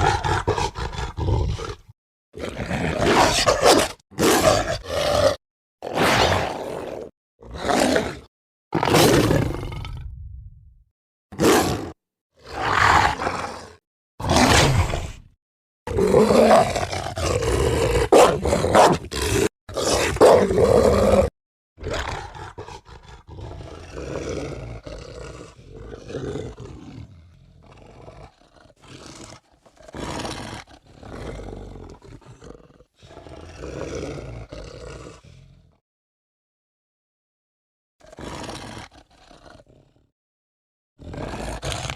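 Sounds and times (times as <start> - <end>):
creature growls: 0.0 - 10.7, 11.4 - 35.8, 38.0 - 40.1, 41.0 - 41.9
creature roars and snarls: 0.0 - 10.7, 11.3 - 35.8, 38.0 - 40.1, 41.0 - 41.9.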